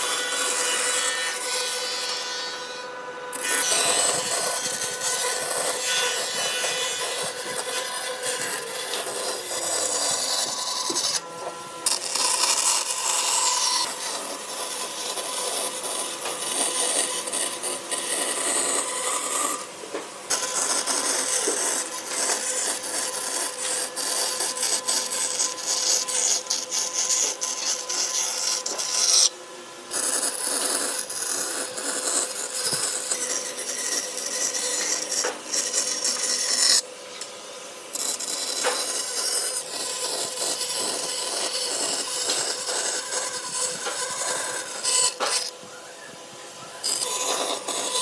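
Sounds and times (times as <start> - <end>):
rasping tool scraping wood: 0.0 - 37.3, 37.9 - 45.6, 46.8 - 48.0.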